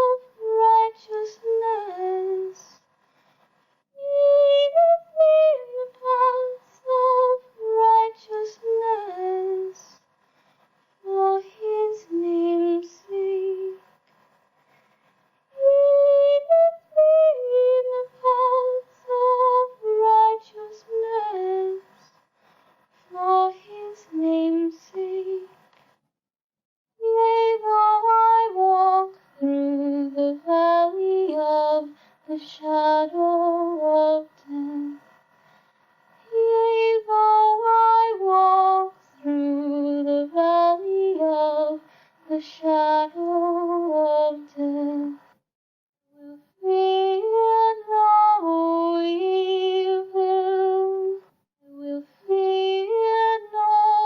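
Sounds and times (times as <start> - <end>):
person singing unaccompanied: 0.0 - 2.8, 4.0 - 10.0, 11.0 - 13.8, 15.5 - 22.1, 23.1 - 25.6, 27.0 - 35.0, 36.2 - 45.2, 46.2 - 54.0.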